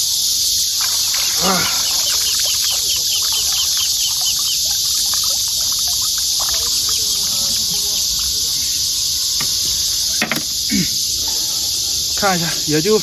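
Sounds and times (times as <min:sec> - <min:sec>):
faint chirps: 0:00.0 - 0:13.0
insects droning: 0:00.0 - 0:13.0.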